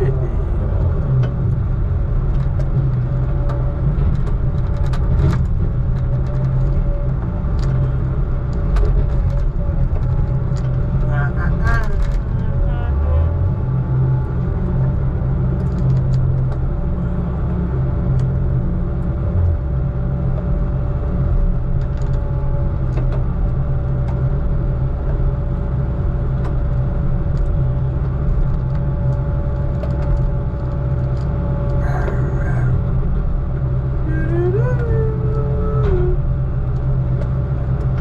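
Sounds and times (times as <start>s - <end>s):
heavy diesel engine rumbling: 0.0s - 38.0s.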